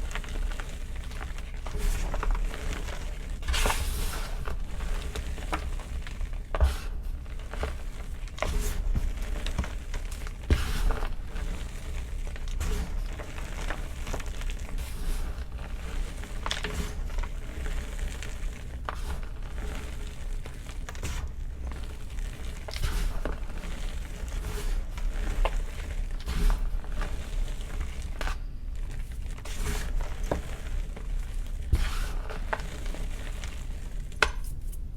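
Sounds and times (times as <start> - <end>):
chalk crunching: 0.0 - 34.8.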